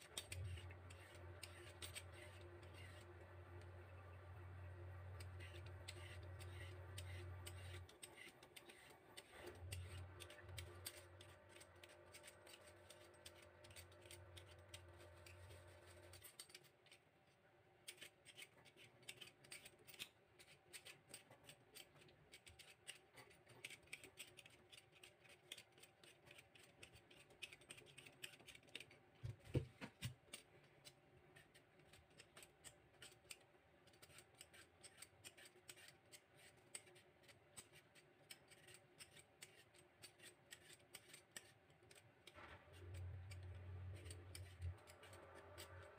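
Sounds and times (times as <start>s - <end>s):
vegetable peeler scraping carrot: 0.0s - 17.0s, 17.8s - 29.4s, 30.0s - 45.9s.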